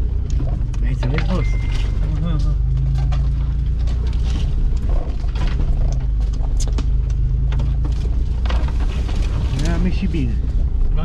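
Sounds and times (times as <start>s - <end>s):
branches brushing vehicle: 0.0s - 11.0s
engine running at low revs: 0.0s - 11.0s
vehicle body knocks and rattles: 0.0s - 11.0s.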